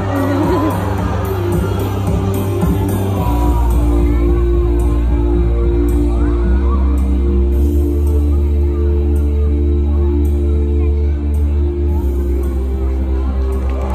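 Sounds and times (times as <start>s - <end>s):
deep sustained bass: 0.0s - 13.9s
stage-show music with held chords: 0.0s - 13.9s.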